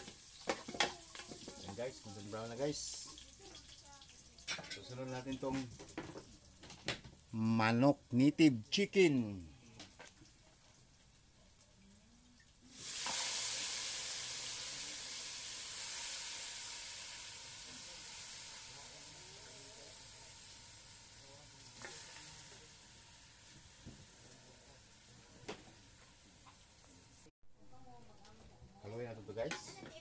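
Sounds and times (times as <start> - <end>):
chicken sizzling in hot oil: 0.0 - 27.3.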